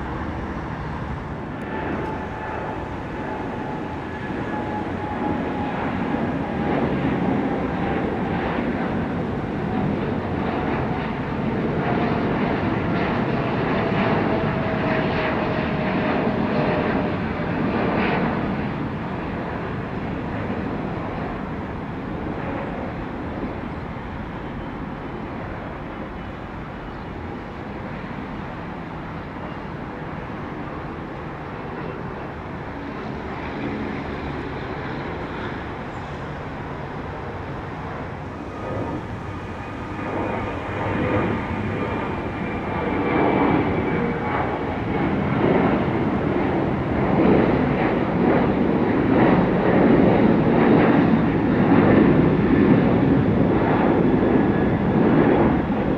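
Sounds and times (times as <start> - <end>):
jet engine whine: 0.0 - 55.9
jet engines rumbling: 0.0 - 55.9.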